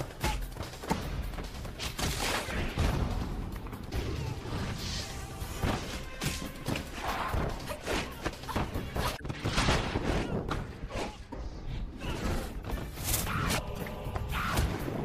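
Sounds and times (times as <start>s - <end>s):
background film music: 0.0s - 15.0s.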